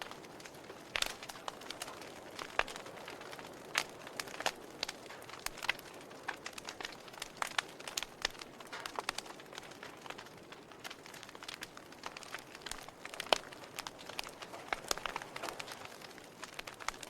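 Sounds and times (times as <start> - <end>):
soft fire hiss: 0.0 - 17.0
wood fire pops and snaps: 0.0 - 17.0.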